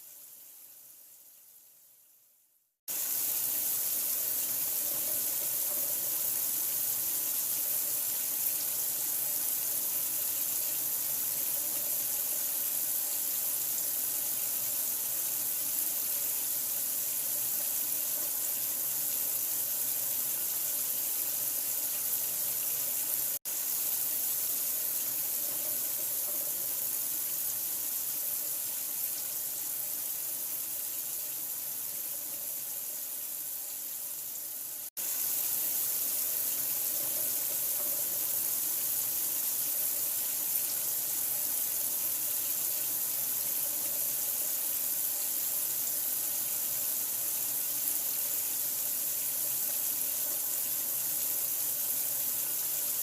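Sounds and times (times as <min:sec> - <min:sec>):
tap water running into sink: 0:02.9 - 0:34.4, 0:35.0 - 0:52.9.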